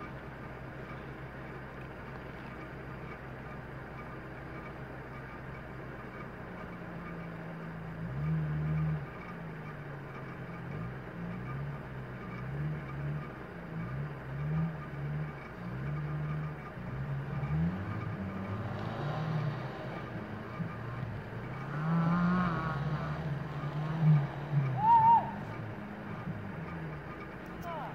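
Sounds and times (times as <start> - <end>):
off-road vehicle engine revving: 0.0 - 27.9.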